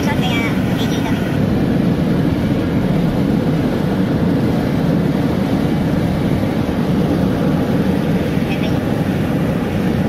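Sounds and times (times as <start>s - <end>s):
car road noise from cabin: 0.0s - 10.0s.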